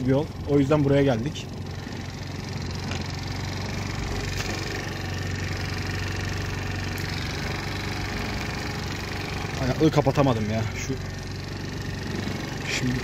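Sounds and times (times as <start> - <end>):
scooter engine running: 0.0 - 13.0.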